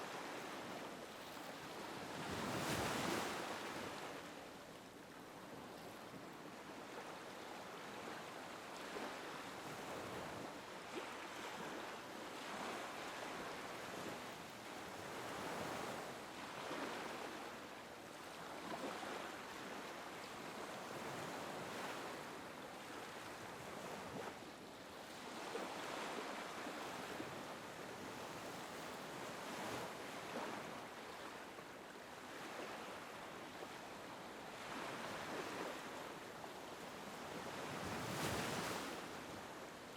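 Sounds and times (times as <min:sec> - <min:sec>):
small waves lapping on beach: 0:00.0 - 0:39.9.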